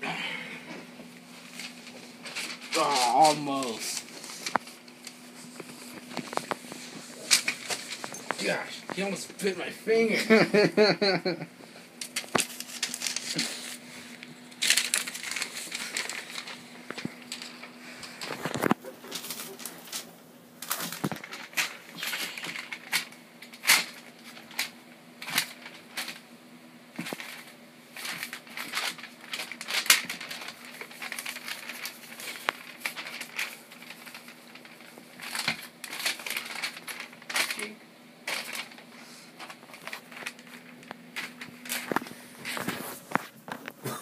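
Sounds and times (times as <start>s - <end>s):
faint steady hum: 0.0s - 44.0s
paper crinkling: 1.0s - 10.6s, 11.7s - 26.3s, 26.9s - 43.9s.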